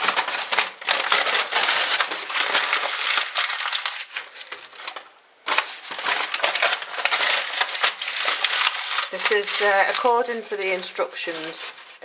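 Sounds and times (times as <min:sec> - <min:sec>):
newspaper crumpling: 0:00.0 - 0:12.0.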